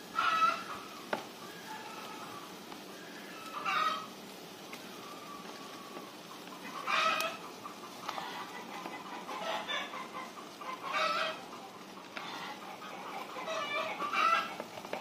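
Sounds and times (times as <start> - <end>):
chickens clucking: 0.0 - 15.0
low steady hiss: 0.0 - 15.0.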